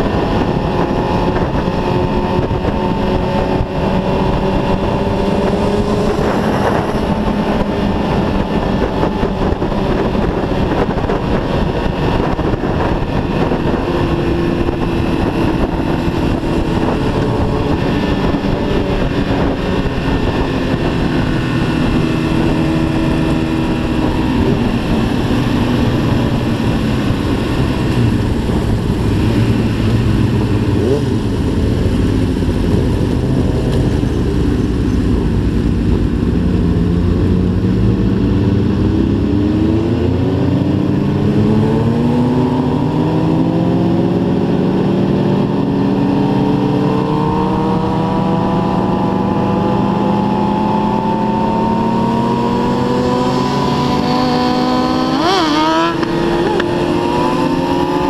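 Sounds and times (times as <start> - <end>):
motorcycle engine running: 0.0 - 58.0
road and wind rumble: 0.0 - 58.0.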